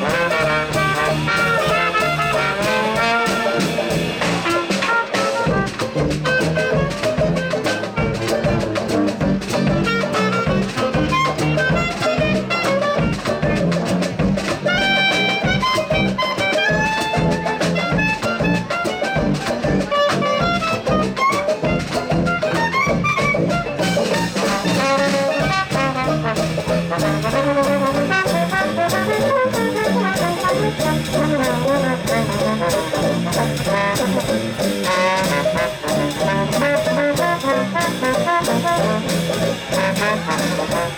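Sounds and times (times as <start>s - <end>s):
big band swing music: 0.0s - 40.9s
trumpets and trombones playing: 0.0s - 40.9s.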